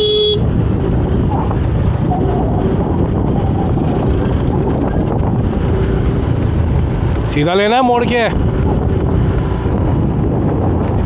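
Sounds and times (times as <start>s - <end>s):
motorcycle engine: 0.0s - 11.0s
road traffic: 0.0s - 11.0s
wind rushing over microphone: 0.0s - 11.0s.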